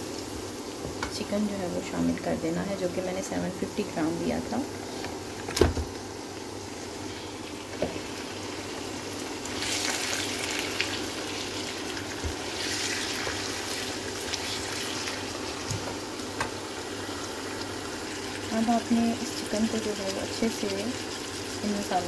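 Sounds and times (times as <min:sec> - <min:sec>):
chicken sizzling in a wok: 0:00.0 - 0:22.0.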